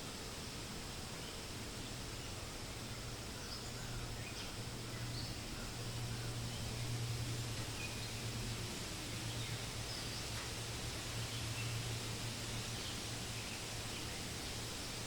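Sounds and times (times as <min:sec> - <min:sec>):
wind rustling through leaves: 0:00.0 - 0:15.0.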